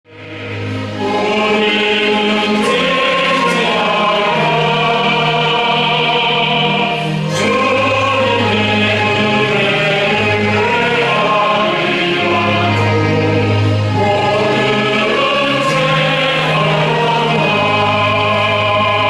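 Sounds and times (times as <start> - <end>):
choir singing a hymn: 0.1 - 19.0
orchestra accompanying: 0.1 - 19.0.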